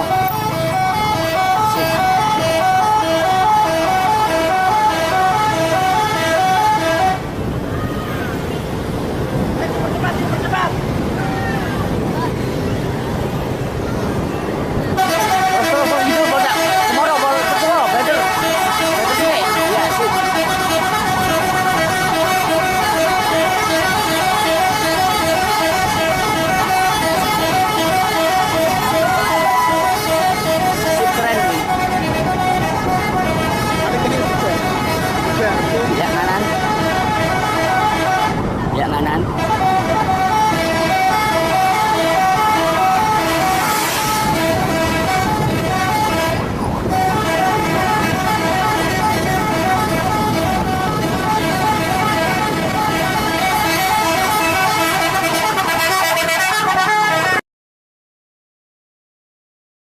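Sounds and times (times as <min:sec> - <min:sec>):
bus horn playing tune: 0:00.0 - 0:07.4, 0:14.9 - 0:57.4.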